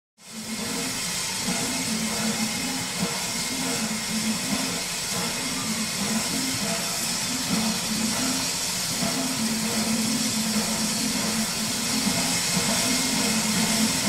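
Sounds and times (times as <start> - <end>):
steam locomotive hissing steam: 0.2 - 14.0.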